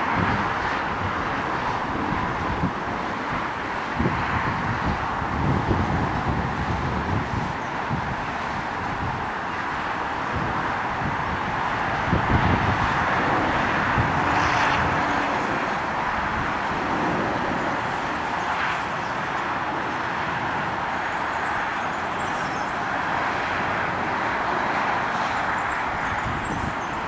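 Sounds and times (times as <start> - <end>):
airliner engine and airflow rush: 0.0 - 27.0.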